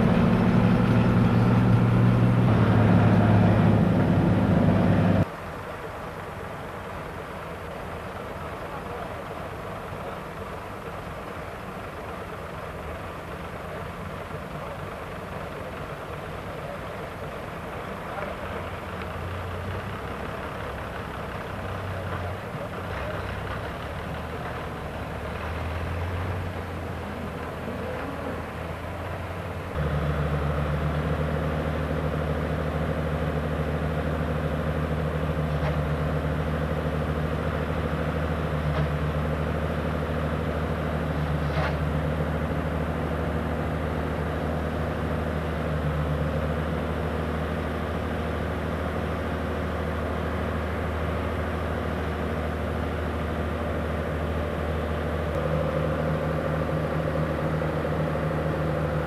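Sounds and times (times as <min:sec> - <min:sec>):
diesel machinery humming: 0:00.0 - 0:59.0.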